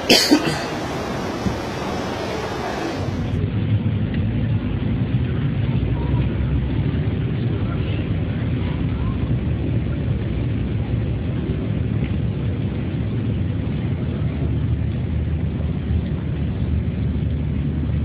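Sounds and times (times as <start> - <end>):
steady low rumbling: 0.0 - 18.0.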